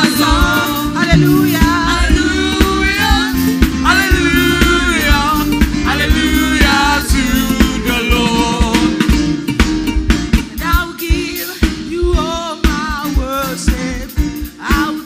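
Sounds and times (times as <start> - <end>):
person singing: 0.0 - 9.1, 10.6 - 15.0
band playing gospel music: 0.0 - 15.0.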